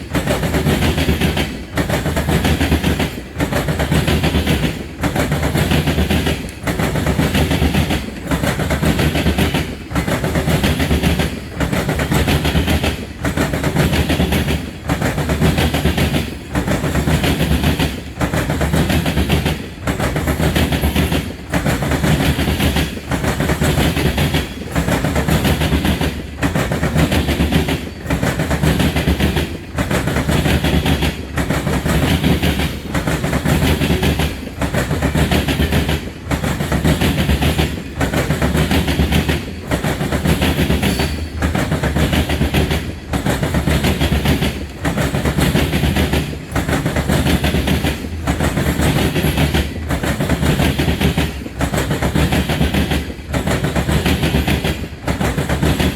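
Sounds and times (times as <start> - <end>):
freight train wheels clattering: 0.0 - 55.9.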